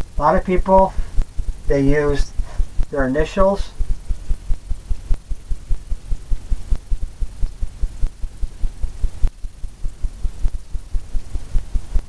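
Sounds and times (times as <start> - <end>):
low pulsing throbbing hum: 0.0 - 12.0.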